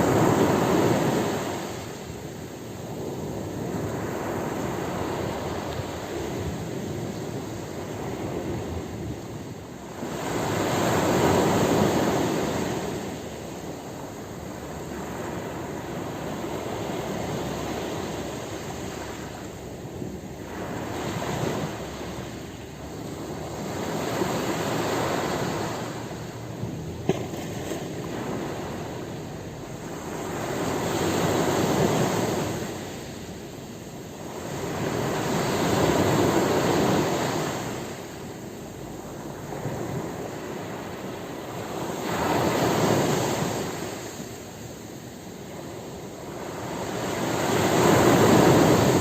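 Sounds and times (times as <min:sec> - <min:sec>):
ocean surf breaking on beach: 0:00.0 - 0:49.0.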